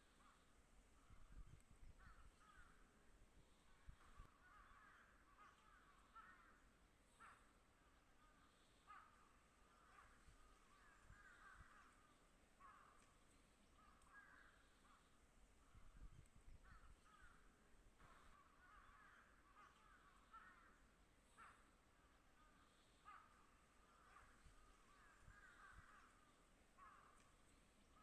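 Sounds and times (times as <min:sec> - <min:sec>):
crows cawing: 0:00.0 - 0:00.5, 0:02.0 - 0:15.8, 0:16.6 - 0:28.0.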